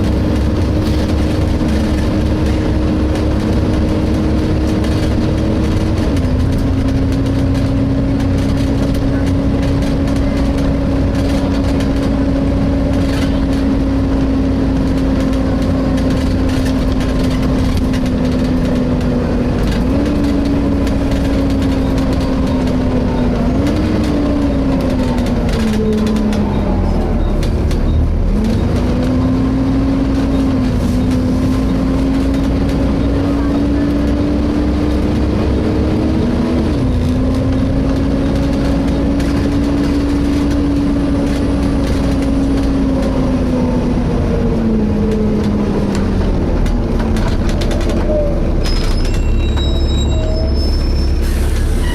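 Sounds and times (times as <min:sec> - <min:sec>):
bus engine whine: 0:00.0 - 0:51.9
bus low rumble: 0:00.0 - 0:51.9.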